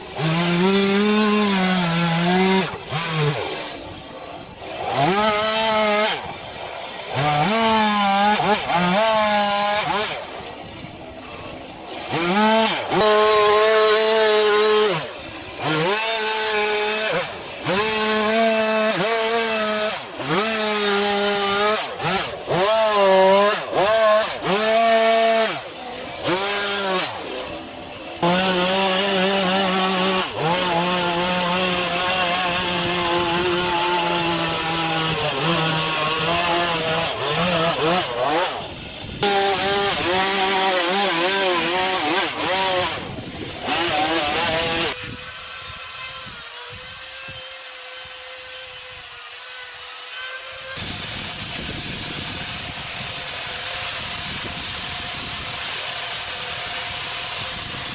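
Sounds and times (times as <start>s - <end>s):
chainsaw revving while cutting wood: 0.0s - 57.9s.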